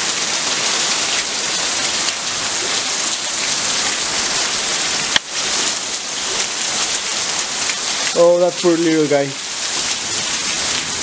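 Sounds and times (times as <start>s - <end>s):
rain falling on leafy plants: 0.0s - 11.0s.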